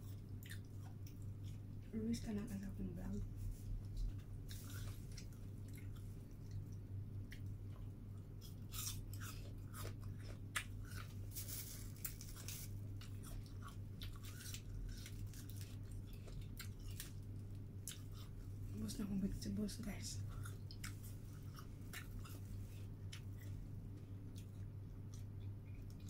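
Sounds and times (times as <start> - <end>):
person chewing crisp apple: 0.0 - 1.8, 3.6 - 18.7, 20.2 - 26.0
steady low hum: 0.0 - 26.0.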